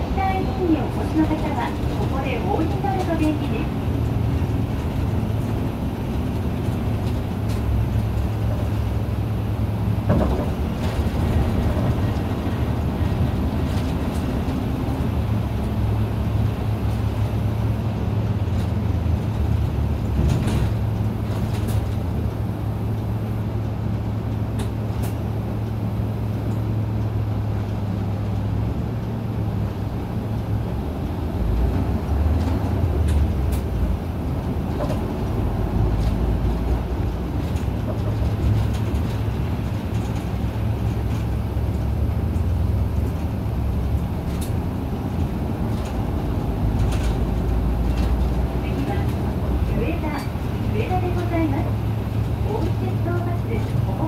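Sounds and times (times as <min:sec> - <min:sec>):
bus diesel engine droning: 0:00.0 - 0:54.0
interior clicks and rattles: 0:00.1 - 0:54.0.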